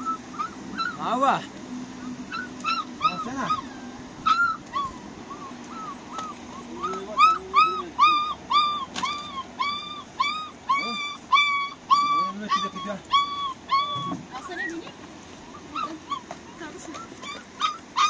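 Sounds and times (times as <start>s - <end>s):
animal whimpering: 0.0s - 1.3s, 2.0s - 14.8s, 15.5s - 18.0s.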